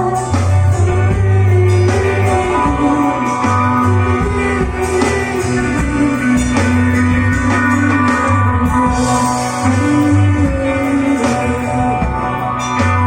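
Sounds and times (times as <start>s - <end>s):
electric guitar: 0.0s - 13.0s
sustained bass notes: 0.0s - 13.0s.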